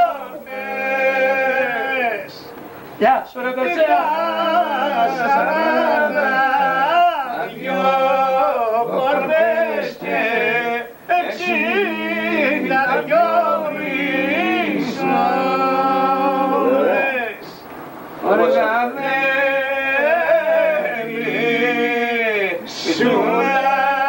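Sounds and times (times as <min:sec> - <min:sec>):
man singing unaccompanied: 0:00.0 - 0:24.0.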